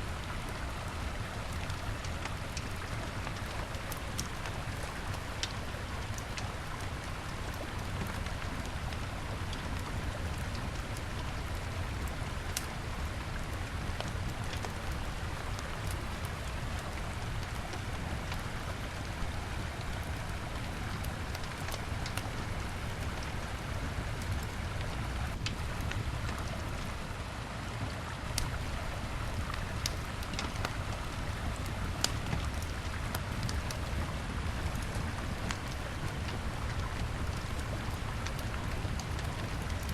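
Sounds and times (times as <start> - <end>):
flowing river: 0.0 - 39.9
wood fire crackling: 0.1 - 27.2, 28.3 - 39.9.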